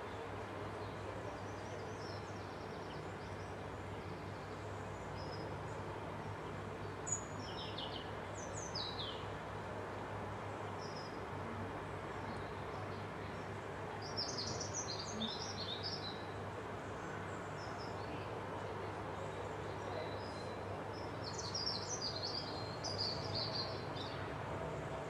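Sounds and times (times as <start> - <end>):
small birds chirping: 0.8 - 11.4, 12.2 - 24.9.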